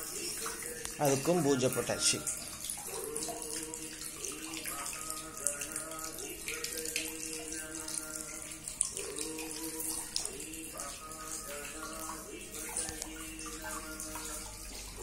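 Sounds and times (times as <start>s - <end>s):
fountain water trickling into basin: 0.0s - 15.0s.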